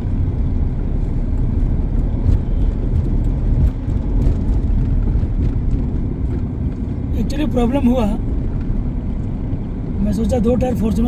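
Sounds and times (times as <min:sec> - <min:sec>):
engine rumble: 0:00.0 - 0:11.0
road noise: 0:00.0 - 0:11.0.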